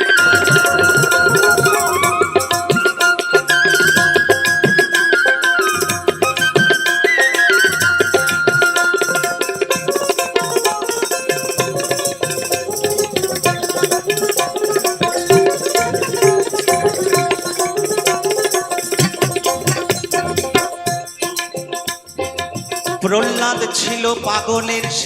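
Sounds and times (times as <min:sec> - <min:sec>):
hand drum fast beat: 0:00.0 - 0:25.0.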